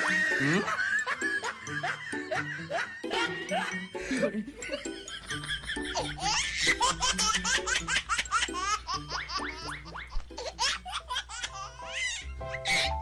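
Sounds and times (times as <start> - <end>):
background music: 0.0 - 13.0
rapid high-pitched laughter: 0.0 - 13.0.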